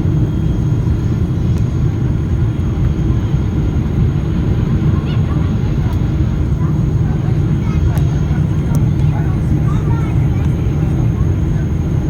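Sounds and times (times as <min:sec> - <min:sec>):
airliner engines and airflow rumble: 0:00.0 - 0:12.0.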